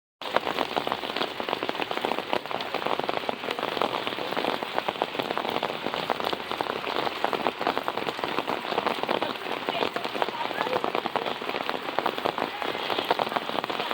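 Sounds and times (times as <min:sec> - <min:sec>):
steady rain: 0:00.2 - 0:13.9.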